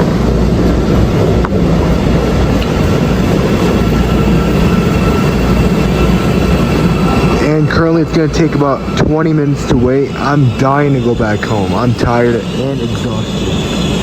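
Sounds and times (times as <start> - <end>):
faint high whine: 0.0 - 14.0
train rumbling on rails: 0.0 - 14.0.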